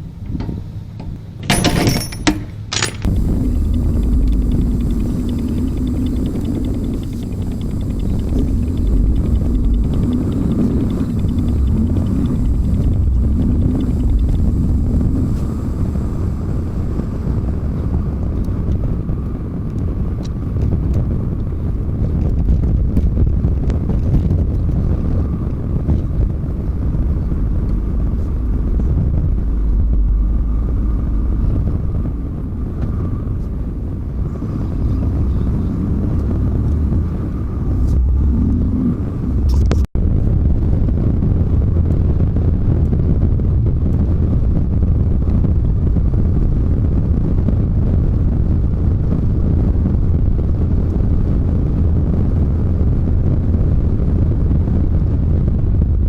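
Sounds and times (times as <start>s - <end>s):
truck engine and road rumble: 0.0s - 55.9s.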